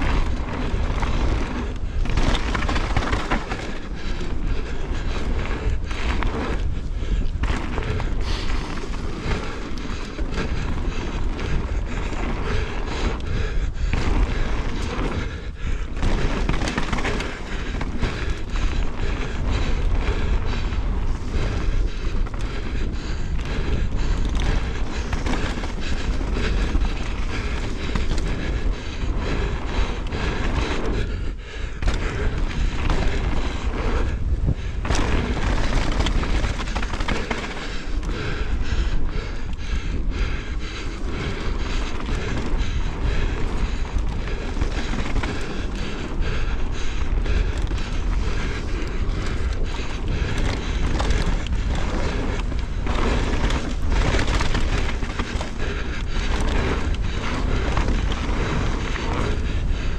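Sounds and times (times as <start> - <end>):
bike rattling: 0.0 - 59.9
bike tyres crunching over stones: 0.0 - 59.9
wind rumble on microphone: 0.0 - 59.9.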